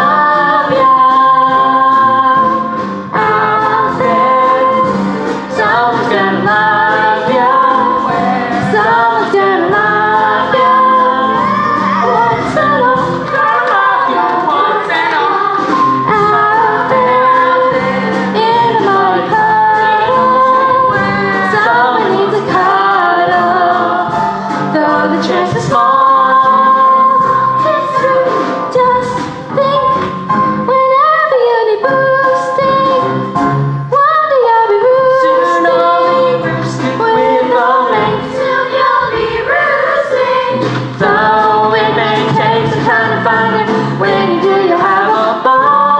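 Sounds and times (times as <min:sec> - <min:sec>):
musical accompaniment: 0:00.0 - 0:45.9.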